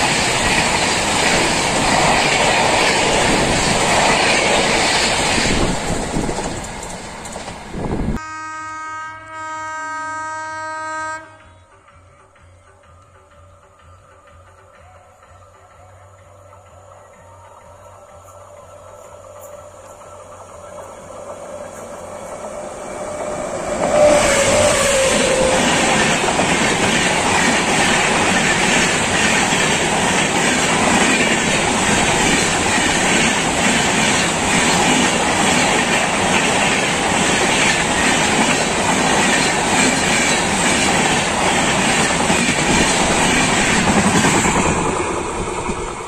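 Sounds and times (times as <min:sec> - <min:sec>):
locomotive passing at speed: 0:00.0 - 0:08.2, 0:16.5 - 0:46.0
wheels clacking on rails: 0:00.0 - 0:08.2, 0:11.6 - 0:46.0.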